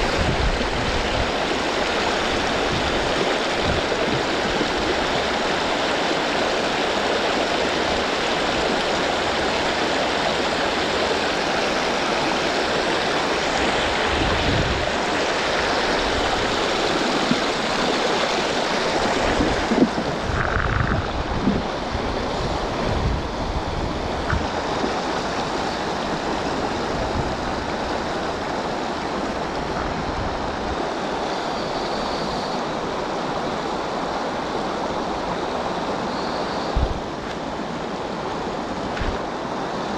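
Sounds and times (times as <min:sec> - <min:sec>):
shallow river rapids rushing: 0:00.0 - 0:39.9.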